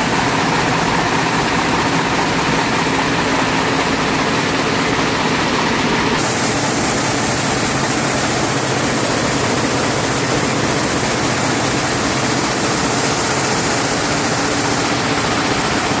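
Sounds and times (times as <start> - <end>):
weaving looms running: 0.0 - 16.0.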